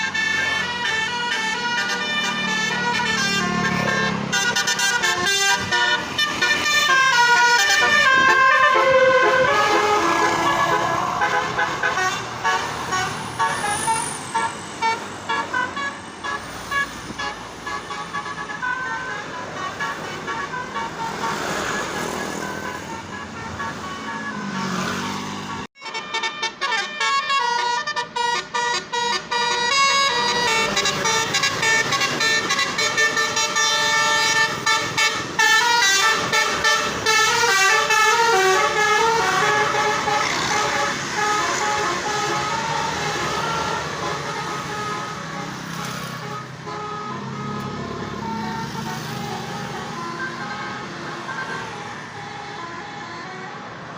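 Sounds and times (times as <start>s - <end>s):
bus musical horns: 0.0s - 53.9s.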